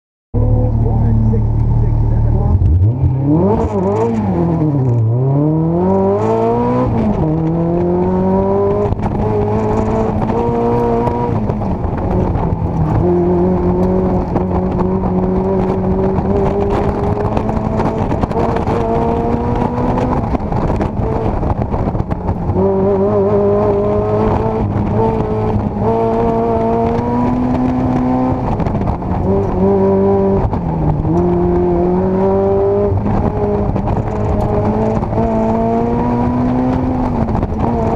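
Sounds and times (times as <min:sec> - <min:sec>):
car engine accelerating hard: 0:00.4 - 0:37.9.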